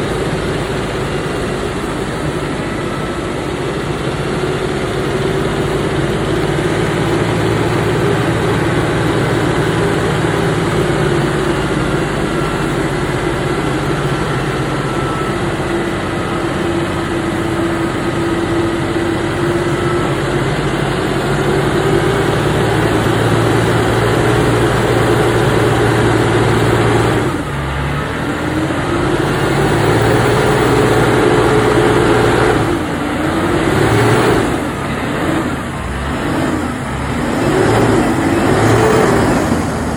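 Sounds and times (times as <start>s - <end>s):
truck engine under load: 0.0s - 39.9s.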